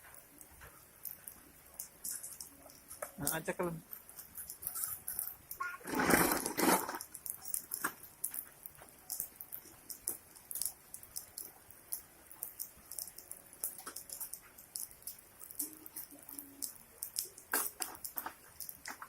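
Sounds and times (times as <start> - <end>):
rain dripping and pattering: 0.0 - 19.0.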